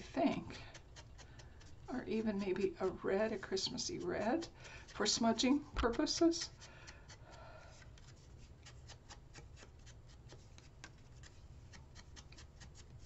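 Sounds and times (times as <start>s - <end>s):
foam tool dabbing paper: 0.0s - 7.4s, 8.0s - 13.0s.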